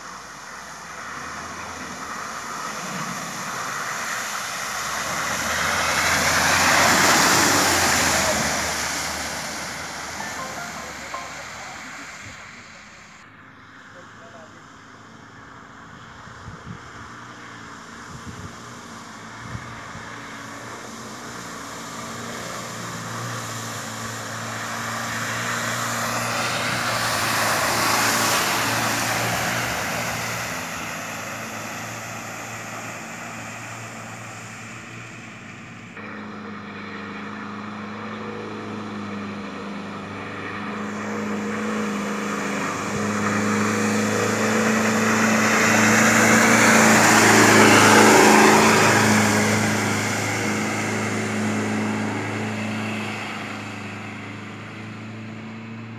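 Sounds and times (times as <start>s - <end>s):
water splashing from wheels: 0.0s - 13.2s, 17.0s - 55.9s
suv engine running: 0.0s - 55.9s.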